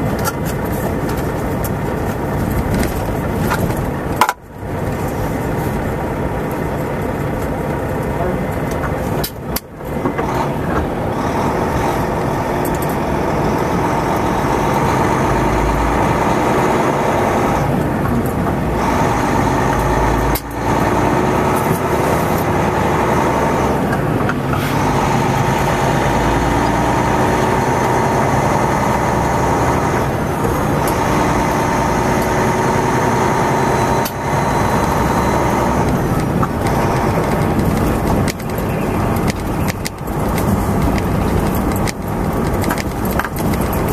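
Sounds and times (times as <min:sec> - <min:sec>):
road noise: 0:00.0 - 0:43.9
truck engine running: 0:00.0 - 0:43.9.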